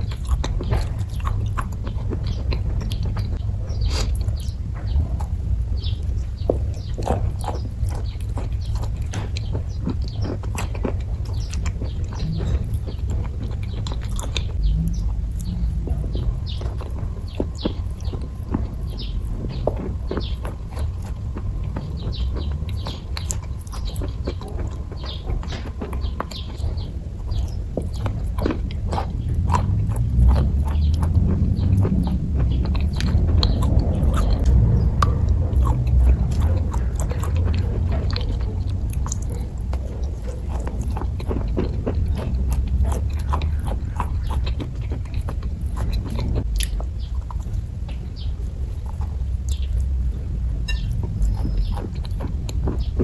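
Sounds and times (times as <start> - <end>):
wet mouth clicks: 0.0 - 50.0
chewing and biting: 0.0 - 53.0.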